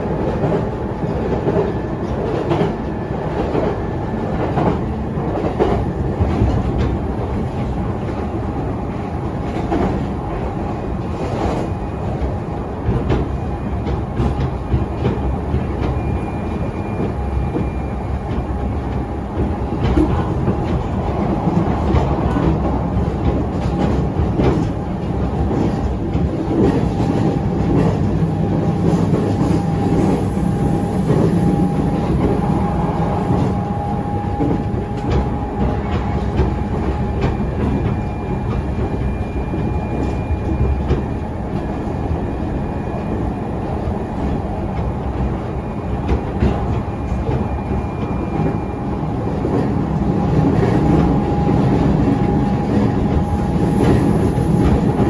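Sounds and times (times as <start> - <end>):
low rumble of wheels on rail: 0.0 - 55.0
rail joint clacks: 0.0 - 55.0
steady train whine: 0.0 - 55.0.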